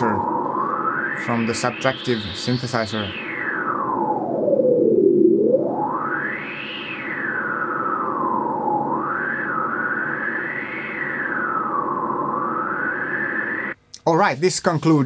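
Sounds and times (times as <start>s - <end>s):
synthesizer filtered noise sweeps: 0.0s - 13.8s.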